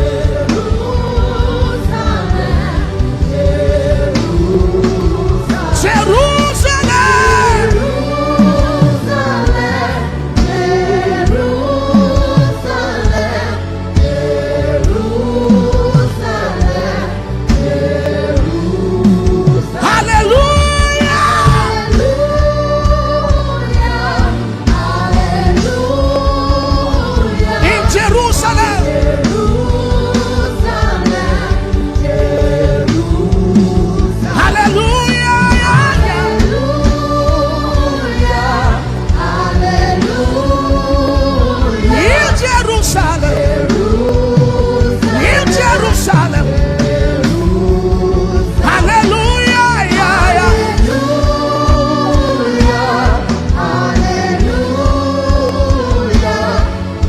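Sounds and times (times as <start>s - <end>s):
person singing gospel: 0.0s - 57.0s
steady beat: 0.0s - 57.0s.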